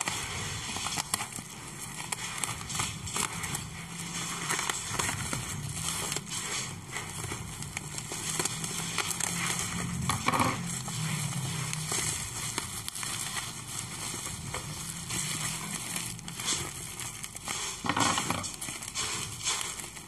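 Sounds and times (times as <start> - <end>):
plastic bag crinkling: 0.0 - 20.0
scissors cutting plastic: 0.0 - 20.0.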